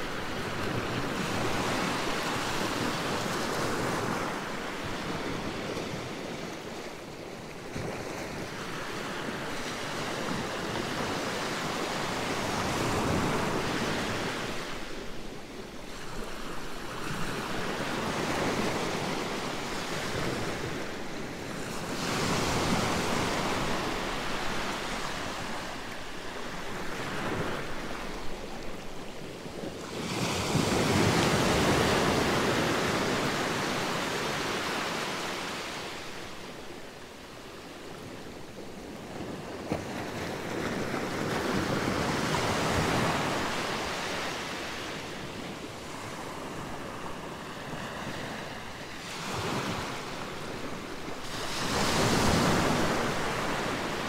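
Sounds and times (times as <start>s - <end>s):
sea waves washing over sand: 0.0s - 54.0s.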